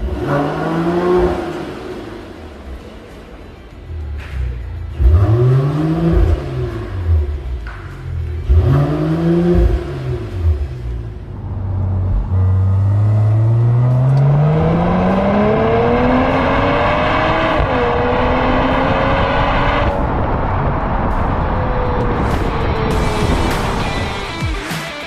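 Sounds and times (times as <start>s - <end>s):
car engine through exhaust: 0.0s - 23.8s.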